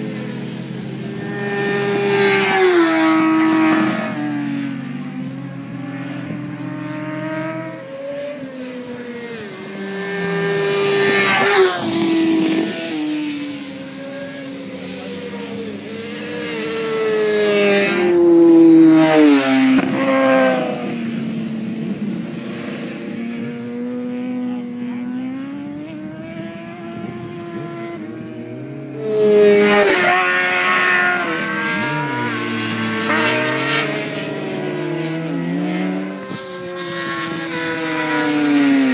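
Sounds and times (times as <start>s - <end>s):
motorcycle engines revving high: 0.0s - 38.9s.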